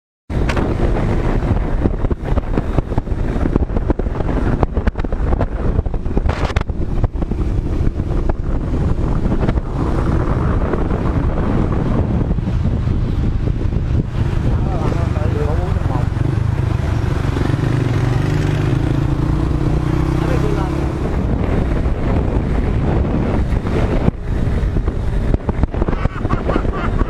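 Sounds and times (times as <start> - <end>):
motorcycle engine running: 0.3 - 27.0
wind buffeting microphone: 0.3 - 27.0.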